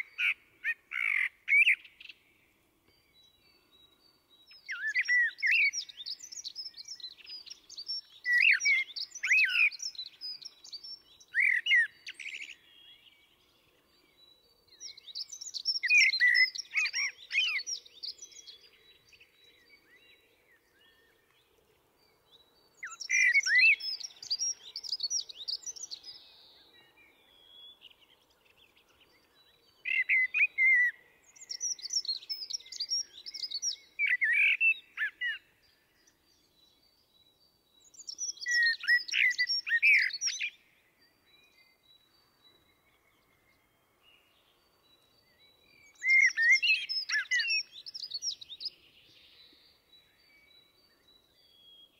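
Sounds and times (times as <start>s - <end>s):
blackbird singing: 0.0s - 51.9s.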